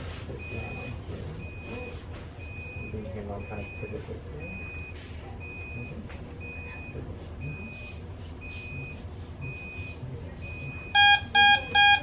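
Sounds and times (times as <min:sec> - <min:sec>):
high alarm beep: 0:00.4 - 0:12.0
loud low multi-tone beep: 0:00.4 - 0:12.0.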